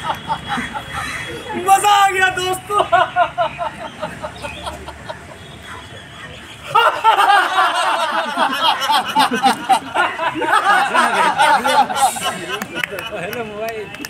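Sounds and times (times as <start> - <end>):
people laughing: 0.0 - 5.4, 6.6 - 14.0.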